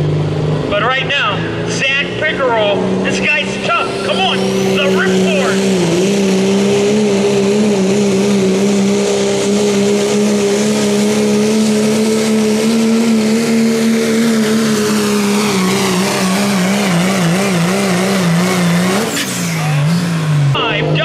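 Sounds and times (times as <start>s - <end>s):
diesel engine at full throttle: 0.0s - 21.0s.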